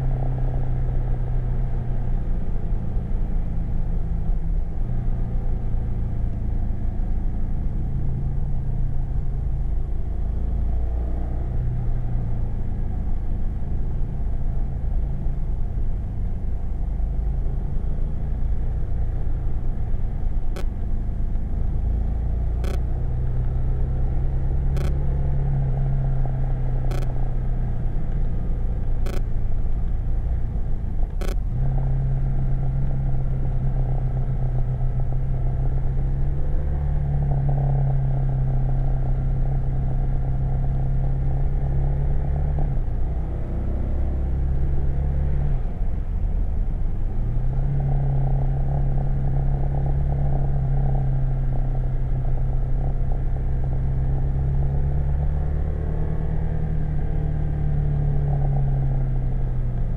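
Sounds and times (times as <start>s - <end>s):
road rumble: 0.0s - 59.9s.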